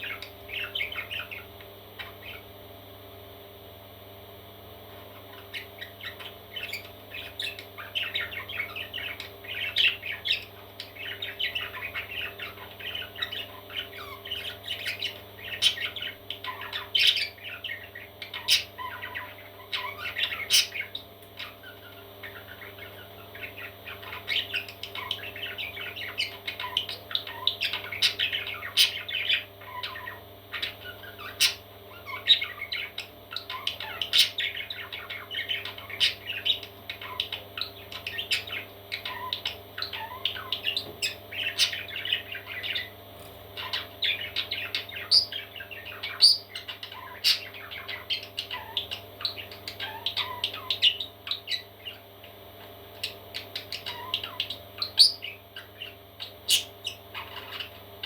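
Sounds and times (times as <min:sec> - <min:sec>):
parrot chicks squawking: 0:00.0 - 0:02.5, 0:04.9 - 0:58.0.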